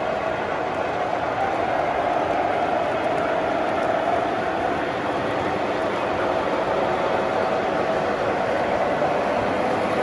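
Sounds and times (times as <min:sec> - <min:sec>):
model train wheels rumbling: 0:00.0 - 0:10.0.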